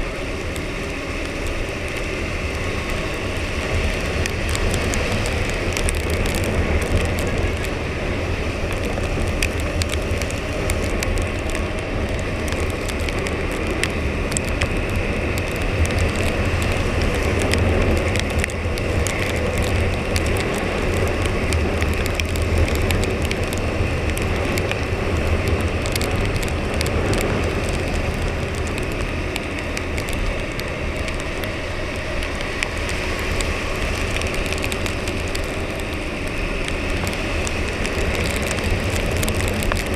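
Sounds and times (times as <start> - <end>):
rain hissing: 0.0 - 39.9
small ticks: 0.5 - 7.8, 8.5 - 39.9.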